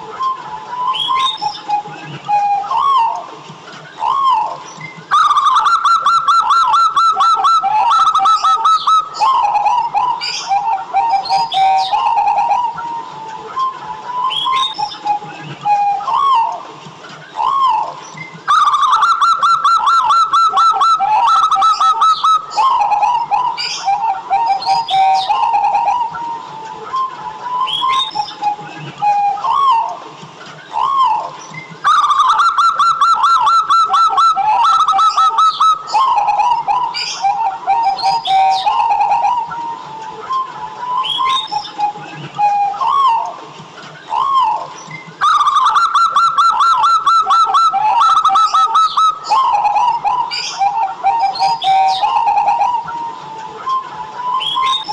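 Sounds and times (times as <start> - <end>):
small birds chirping: 0.0 - 16.6, 17.2 - 54.9
doves cooing: 0.0 - 54.9.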